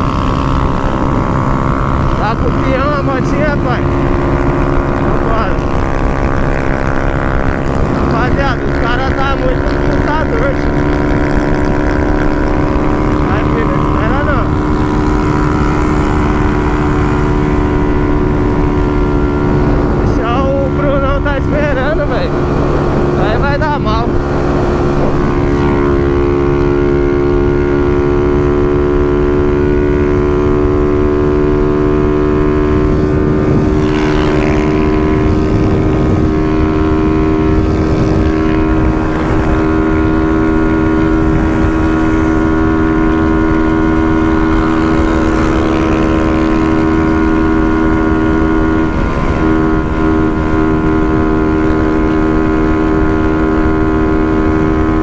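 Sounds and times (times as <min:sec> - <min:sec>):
motorcycle engine at high revs: 0:00.0 - 0:55.0
wind noise: 0:00.0 - 0:55.0.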